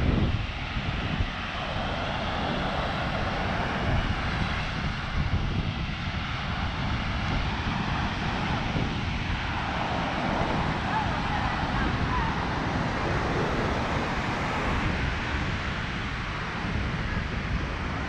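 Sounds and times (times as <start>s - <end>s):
steady outdoor roar: 0.0s - 18.0s
wind buffeting microphone: 0.0s - 18.0s.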